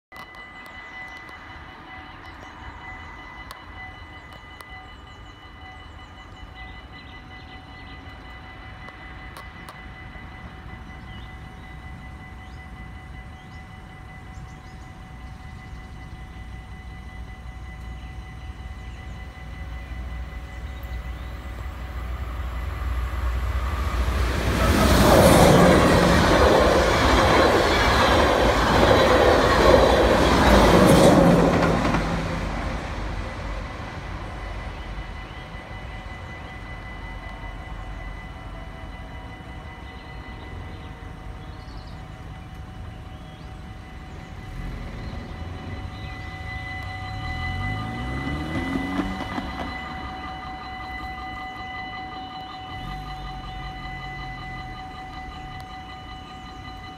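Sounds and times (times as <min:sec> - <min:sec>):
level crossing warning bell: 0:00.1 - 0:56.9
electric train passing: 0:00.2 - 0:56.9.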